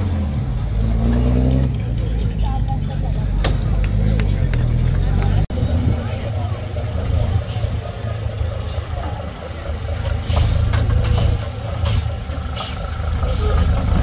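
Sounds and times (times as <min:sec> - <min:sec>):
truck diesel engine rumbling: 0:00.0 - 0:14.0.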